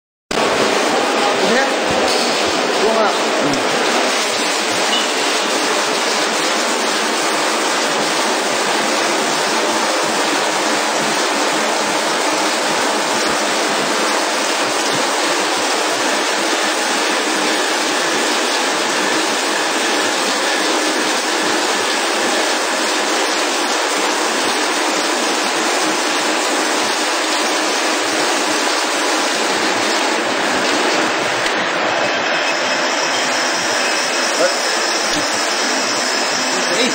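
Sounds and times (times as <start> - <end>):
water jets spraying on glass bottles: 0.4 - 36.9.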